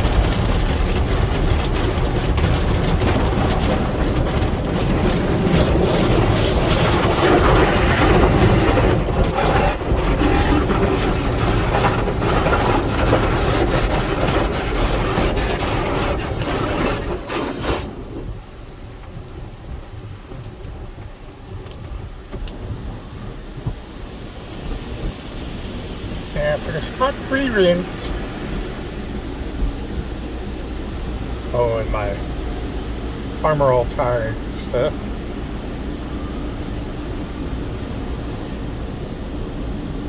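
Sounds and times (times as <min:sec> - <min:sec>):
car wash water rushing: 0:00.0 - 0:40.0
low steady rumble: 0:00.0 - 0:40.0.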